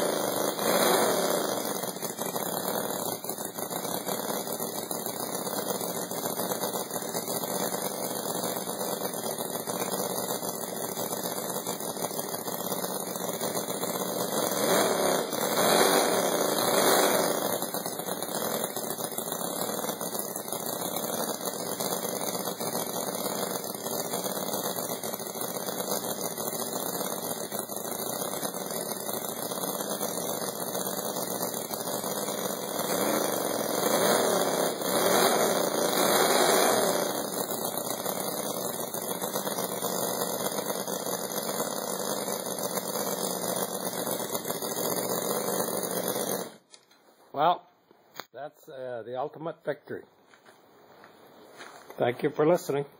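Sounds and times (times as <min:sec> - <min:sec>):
model engine running: 0:00.0 - 0:47.0.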